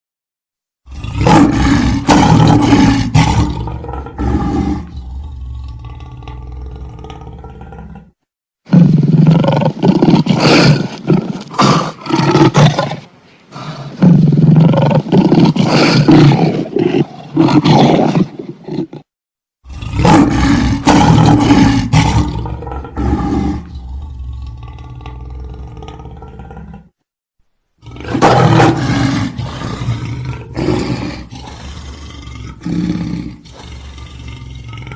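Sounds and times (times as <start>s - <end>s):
lion roaring: 0.8s - 27.0s, 27.8s - 34.9s.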